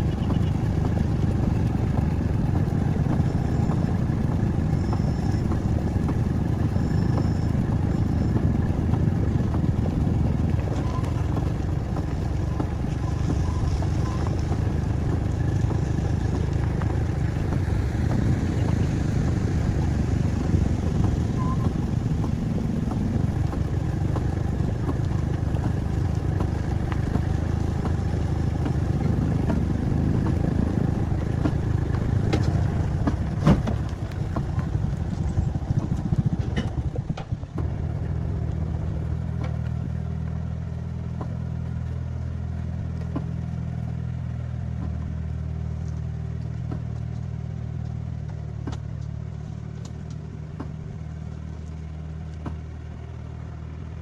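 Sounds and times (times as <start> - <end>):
engine knocks: 0.0 - 54.0
engine rumbling: 0.0 - 54.0.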